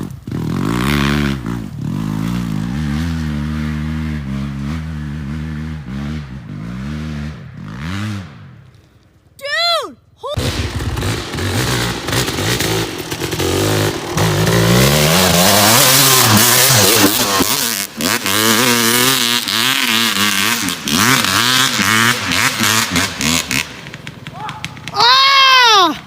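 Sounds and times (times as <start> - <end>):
dirt bike engine revving: 0.0 - 8.6, 10.4 - 25.0.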